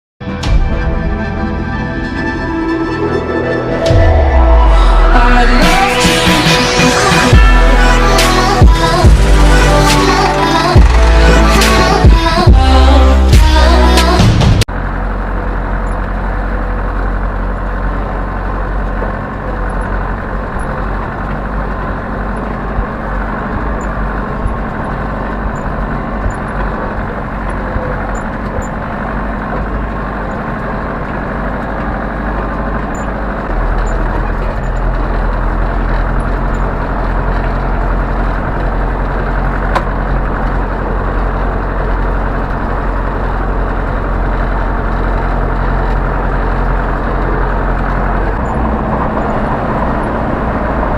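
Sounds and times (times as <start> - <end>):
tractor diesel engine running: 0.2 - 50.9.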